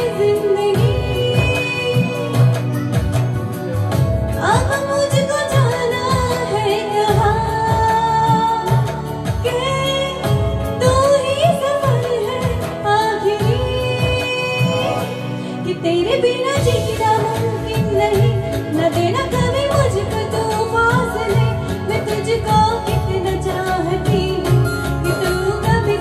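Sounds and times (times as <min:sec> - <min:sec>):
backing track with steady beat: 0:00.0 - 0:26.0
woman singing into microphone: 0:00.0 - 0:26.0.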